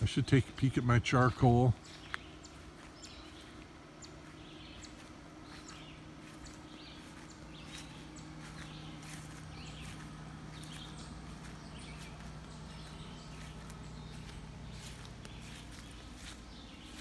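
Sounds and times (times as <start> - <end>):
footsteps on grass: 0.0 - 17.0
steady low hum: 0.0 - 17.0.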